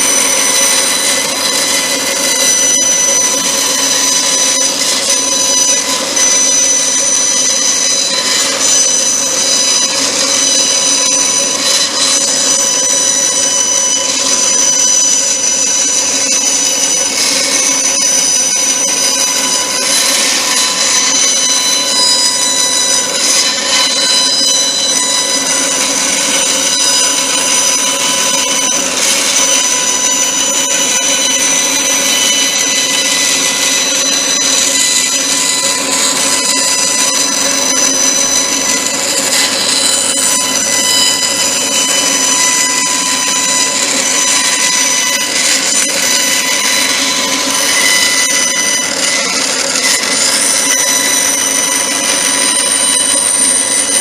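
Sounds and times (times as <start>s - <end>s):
power saw whining: 0.0s - 54.0s.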